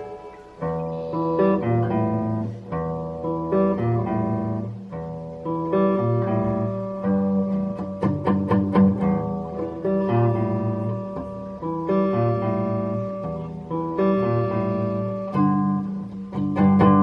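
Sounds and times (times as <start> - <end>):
electric guitar chords: 0.0 - 17.0
strummed guitar strokes: 0.0 - 17.0.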